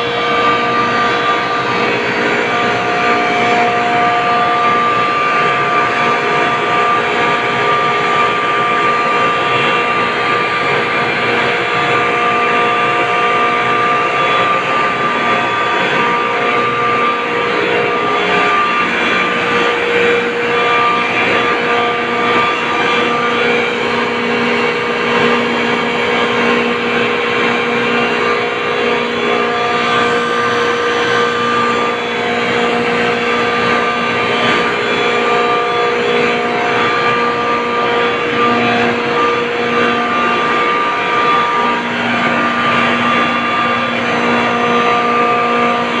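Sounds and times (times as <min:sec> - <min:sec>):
refrigeration compressors running: 0:00.0 - 0:46.0
steady whining tones: 0:00.0 - 0:46.0.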